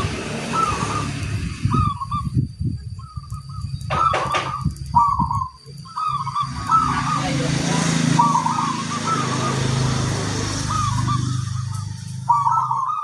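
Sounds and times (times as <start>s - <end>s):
doves cooing: 0.0s - 2.4s, 3.0s - 13.0s
low rumbling background: 0.0s - 13.0s.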